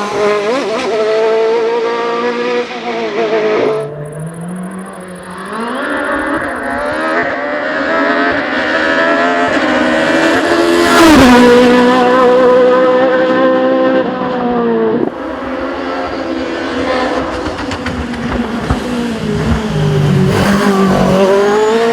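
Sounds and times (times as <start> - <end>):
racing car passing at full throttle: 0.0 - 21.9.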